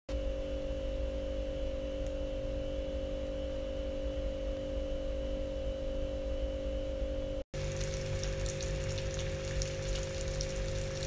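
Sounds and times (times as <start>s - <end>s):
appliance hum with constant tones: 0.1s - 11.0s.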